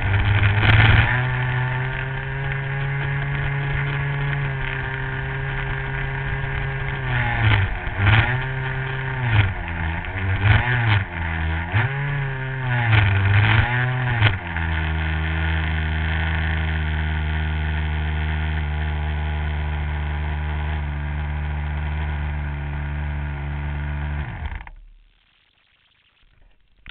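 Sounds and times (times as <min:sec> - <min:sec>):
model airplane engine running: 0:00.0 - 0:24.8.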